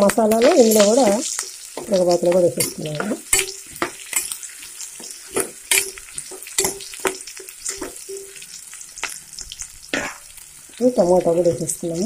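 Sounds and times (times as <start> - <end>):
onions sizzling in oil: 0.0 - 12.0
spoon scraping pan: 0.5 - 11.6.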